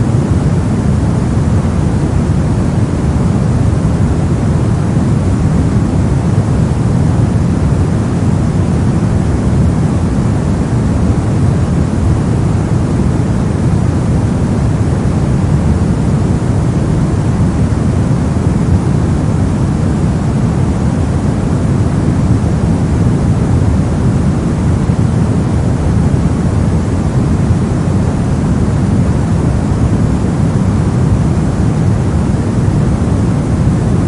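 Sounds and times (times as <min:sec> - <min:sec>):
brown noise: 0:00.0 - 0:34.0.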